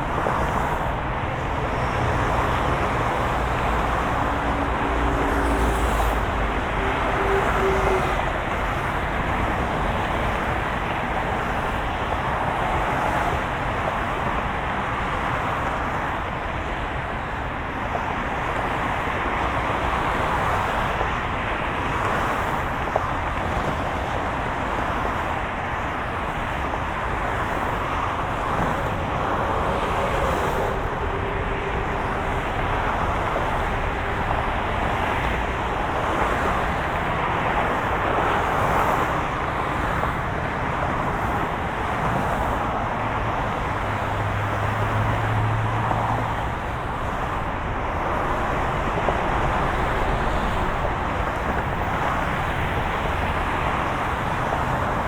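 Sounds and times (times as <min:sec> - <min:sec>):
car road noise: 0:00.0 - 0:55.0.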